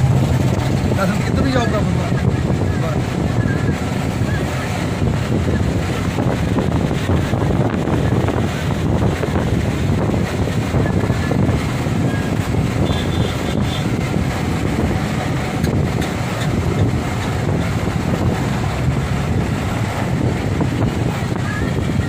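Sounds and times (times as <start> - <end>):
rushing river water: 0.0 - 22.0
wind buffeting microphone: 0.0 - 22.0.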